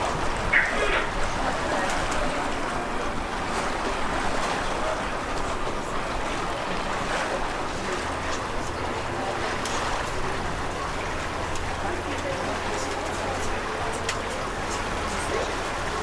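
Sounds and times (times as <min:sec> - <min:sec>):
boat drive humming: 0:00.0 - 0:16.0
water rushing along boat hull: 0:00.0 - 0:16.0.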